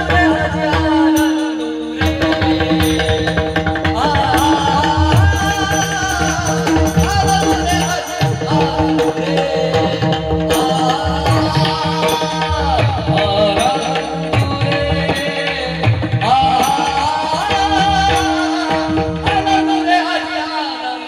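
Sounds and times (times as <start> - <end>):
hand drums playing rhythm: 0.0 - 20.0.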